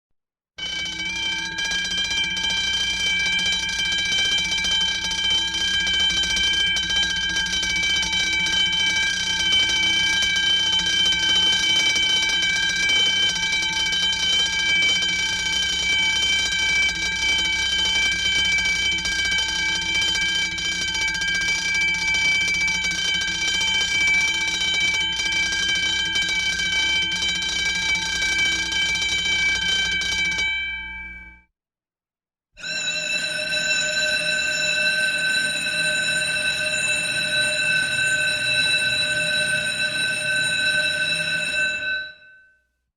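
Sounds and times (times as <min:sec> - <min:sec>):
electric alarm bell ringing: 0:00.6 - 0:31.4, 0:32.6 - 0:42.6.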